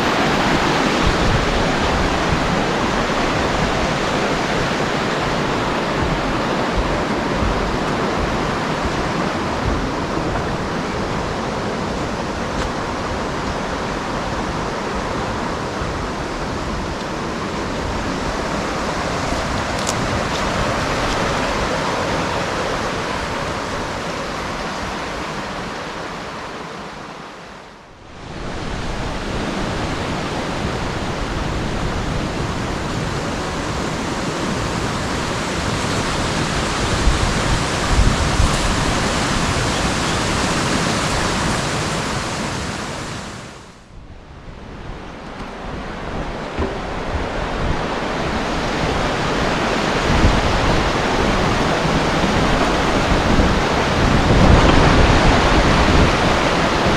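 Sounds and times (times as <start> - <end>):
waterfall rushing water: 0.0 - 43.9, 44.7 - 56.9.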